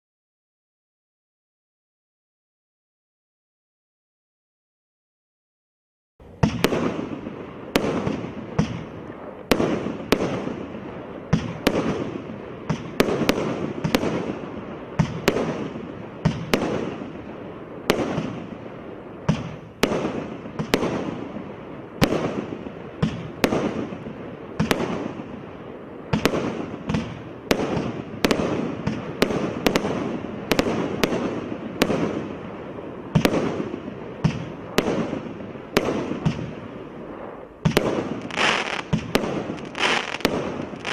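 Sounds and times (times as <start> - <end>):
firework bangs: 6.2 - 40.9
firework hiss and crackle: 6.3 - 40.9.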